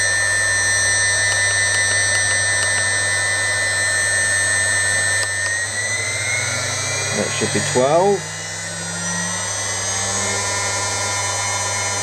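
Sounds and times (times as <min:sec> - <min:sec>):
spindle motor whining: 0:00.0 - 0:12.0.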